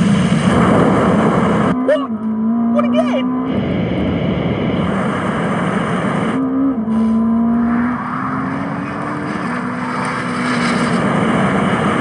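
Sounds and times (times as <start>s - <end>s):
car engine drone at speed: 0.0s - 12.0s
road and wind noise: 0.0s - 12.0s.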